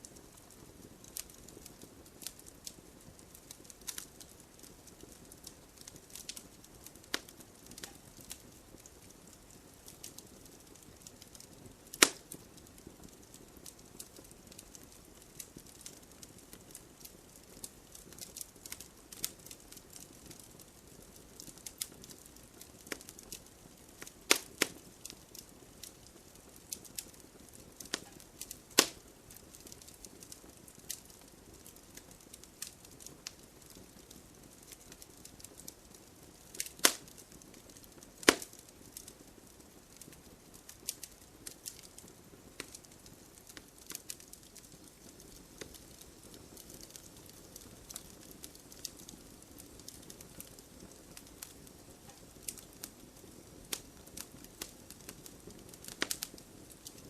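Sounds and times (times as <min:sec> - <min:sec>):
loud pops from fire: 0:00.0 - 0:57.0
wood fire crackling: 0:00.0 - 0:57.0.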